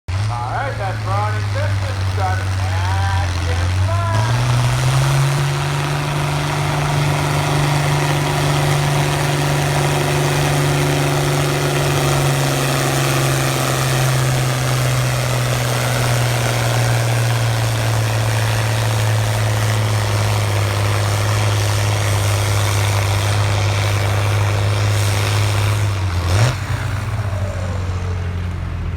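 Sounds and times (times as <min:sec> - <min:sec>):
tractor diesel engine under load: 0:00.0 - 0:28.9.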